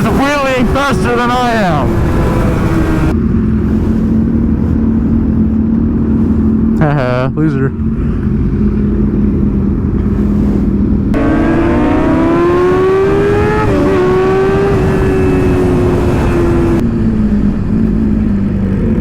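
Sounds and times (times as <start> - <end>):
wind rush: 0.0 - 6.6, 8.9 - 18.6
motorcycle engine: 0.0 - 19.0.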